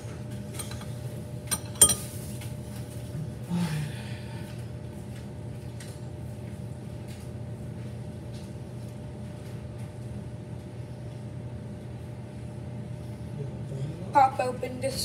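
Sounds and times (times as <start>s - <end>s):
appliance humming: 0.0s - 15.0s.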